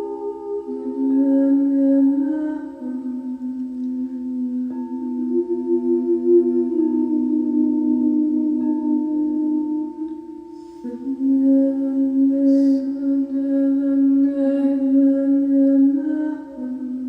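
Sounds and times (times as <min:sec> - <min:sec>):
singing bowl ringing: 0:00.0 - 0:17.0
voice toning long held notes: 0:00.0 - 0:17.0.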